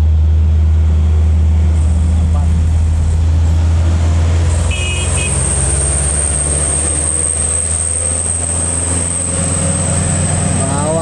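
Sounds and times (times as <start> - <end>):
truck diesel engine passing: 0.0 - 11.0.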